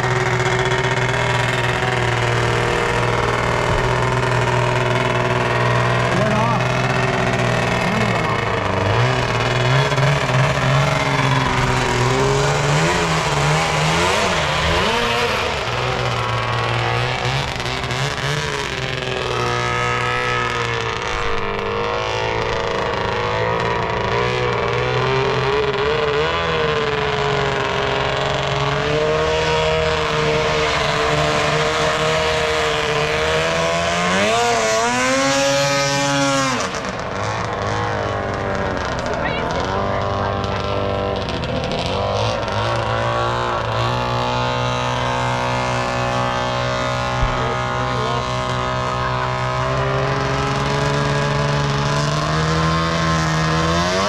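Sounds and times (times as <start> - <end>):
two-stroke boat engine revving: 0.0 - 54.0.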